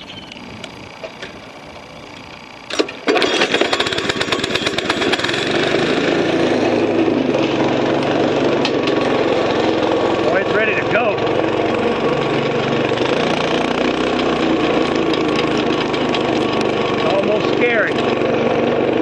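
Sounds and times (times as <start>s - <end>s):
engine sputtering: 0.0s - 19.0s
small gas engine running: 0.0s - 19.0s.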